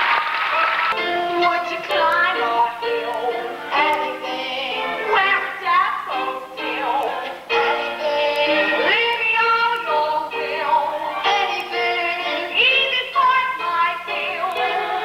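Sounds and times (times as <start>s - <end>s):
musical accompaniment: 0.0s - 15.0s
stage musical cast singing: 0.7s - 15.0s.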